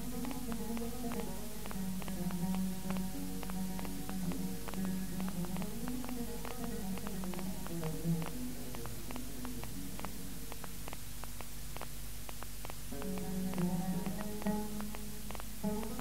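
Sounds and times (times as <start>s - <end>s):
light taps: 0.0s - 16.0s
recording hiss and hum: 0.0s - 16.0s.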